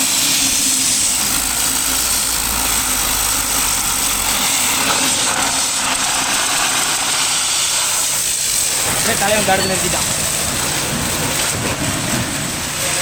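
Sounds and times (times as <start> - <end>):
pressure washer spraying water: 0.0 - 13.0
pump motor hum: 0.0 - 13.0.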